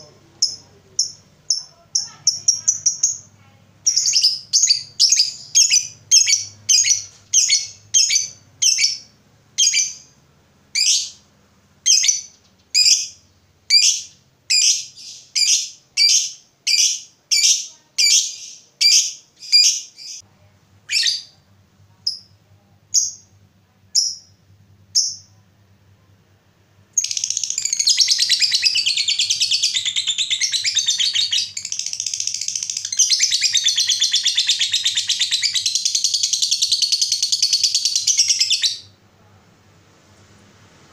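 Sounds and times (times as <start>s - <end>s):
lovebird chirping and trilling: 0.4s - 11.2s, 11.8s - 20.2s, 20.9s - 21.4s, 23.9s - 25.4s, 27.0s - 38.9s.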